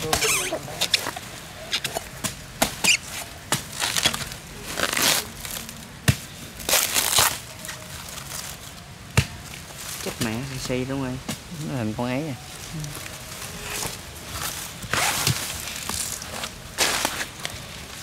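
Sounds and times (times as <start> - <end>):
palm trunk tearing and cracking: 0.0 - 10.6, 12.8 - 18.0.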